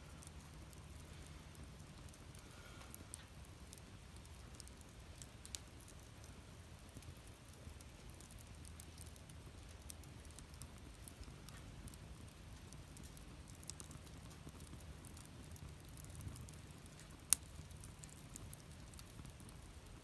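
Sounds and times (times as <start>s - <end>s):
campfire crackling and popping: 0.0s - 20.0s
low rumble of fire: 0.0s - 20.0s.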